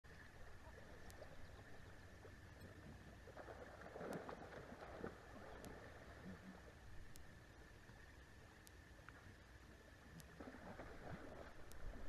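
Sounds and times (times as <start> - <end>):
faint high hum: 0.1 - 12.0.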